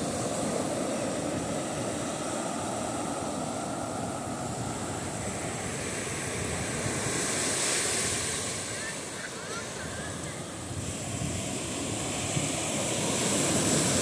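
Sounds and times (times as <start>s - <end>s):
small waves breaking on sand: 0.0s - 14.0s.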